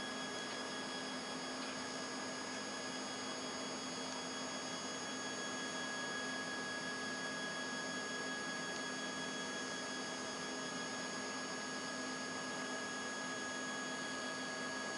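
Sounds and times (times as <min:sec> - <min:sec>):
scanner mechanical hum: 0:00.0 - 0:14.9.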